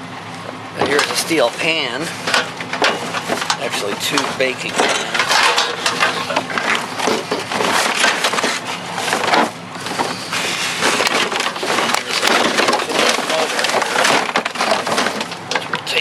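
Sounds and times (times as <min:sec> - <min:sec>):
junk clattering and rustling: 0:00.3 - 0:16.0.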